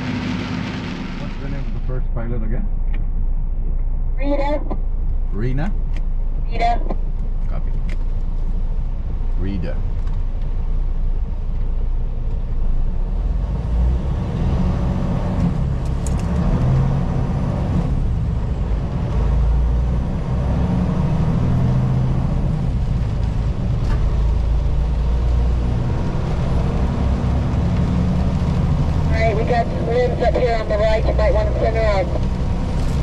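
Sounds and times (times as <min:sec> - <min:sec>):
diesel engine drone: 0:00.0 - 0:33.0
road noise: 0:00.0 - 0:33.0.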